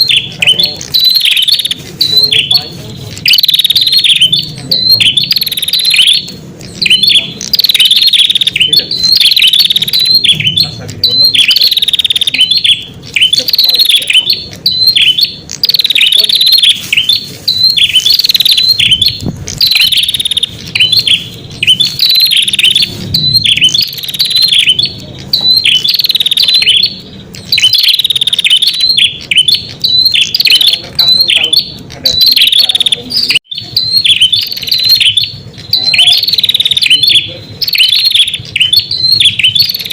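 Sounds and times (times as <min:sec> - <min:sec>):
bird high chattering call: 0:00.0 - 0:39.9.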